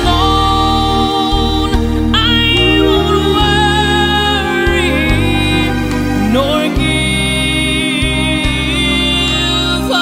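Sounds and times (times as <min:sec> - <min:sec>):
slow instrumental song: 0:00.0 - 0:10.0.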